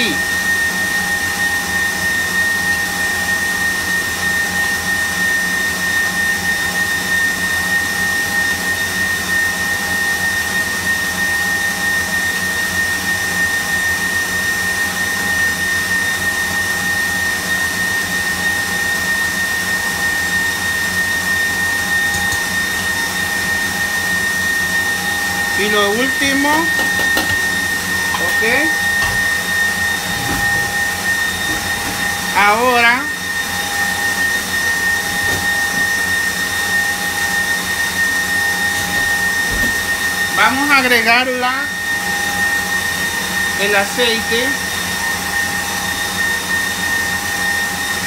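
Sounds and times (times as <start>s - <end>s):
stand mixer whipping batter: 0.0s - 48.0s.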